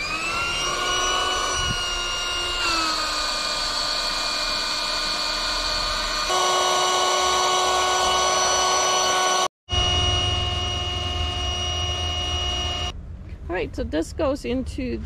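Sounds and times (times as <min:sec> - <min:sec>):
electric air pump whining: 0:00.0 - 0:12.9.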